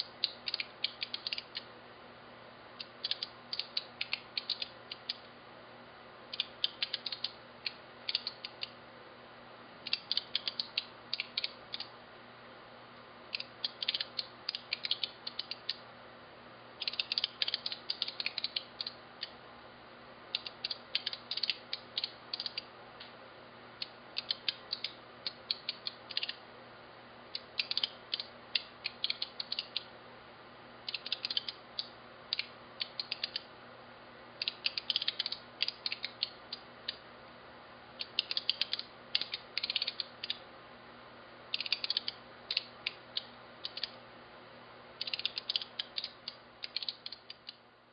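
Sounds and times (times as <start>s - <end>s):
faint steady hum: 0.0s - 47.9s.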